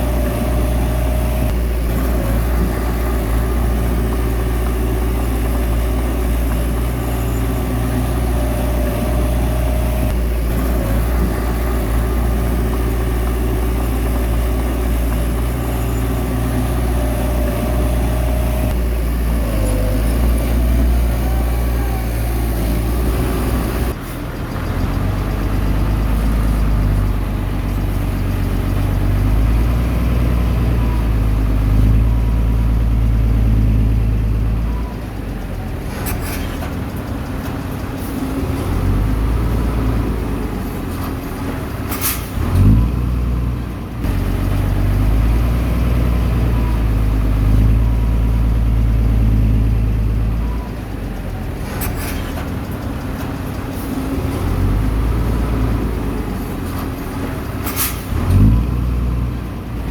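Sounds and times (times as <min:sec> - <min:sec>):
heavy machine engine rumbling: 0:00.0 - 0:59.9.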